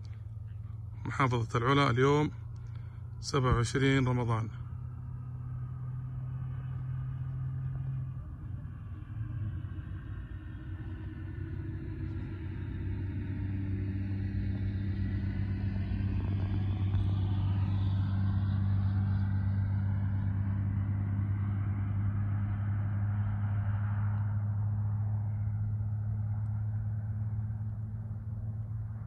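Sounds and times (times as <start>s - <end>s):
car engine humming: 0.0s - 29.0s.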